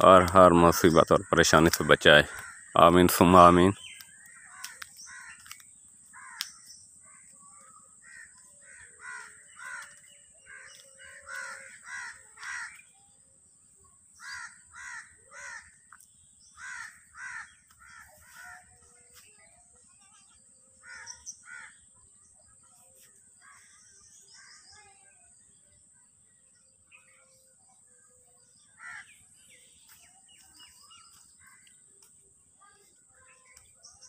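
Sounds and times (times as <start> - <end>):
birds calling: 0.0 - 25.6, 26.3 - 34.0.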